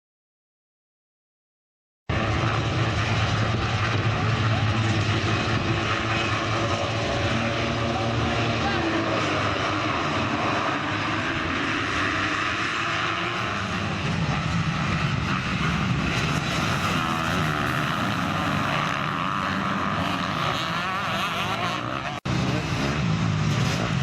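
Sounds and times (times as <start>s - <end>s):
motorcycle engines revving: 2.1s - 24.0s.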